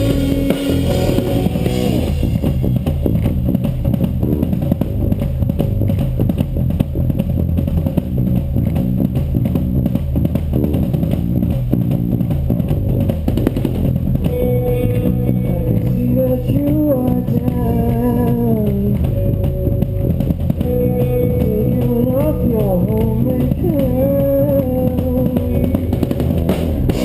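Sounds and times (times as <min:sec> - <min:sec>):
live band playing guitar-led music: 0:00.0 - 0:27.0.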